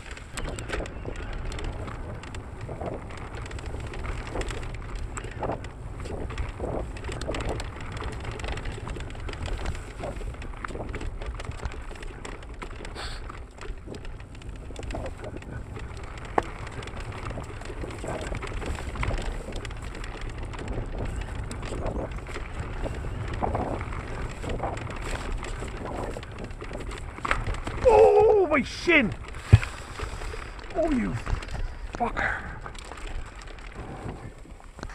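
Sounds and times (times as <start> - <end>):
bike rattling and clicking: 0.0 - 34.9
tyres crunching over dirt and stones: 0.0 - 34.9
wind rumbling on microphone: 0.0 - 34.9.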